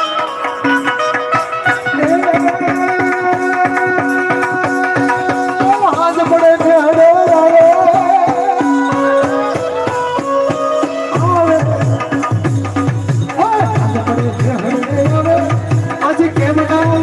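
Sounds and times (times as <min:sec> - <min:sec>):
fast percussion beat: 0:00.0 - 0:17.0
harmonium chords: 0:00.0 - 0:17.0
person singing: 0:00.0 - 0:17.0.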